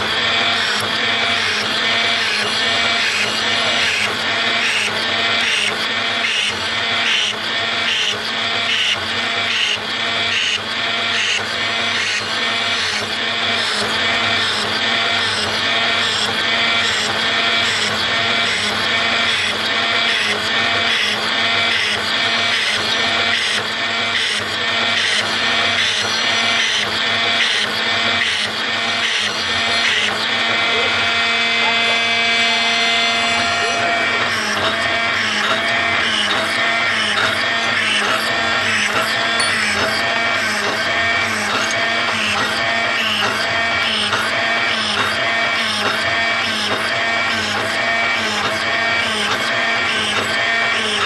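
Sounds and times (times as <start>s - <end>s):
drilling machine cycling: 0.0s - 51.0s
steady motor hum: 0.0s - 51.0s.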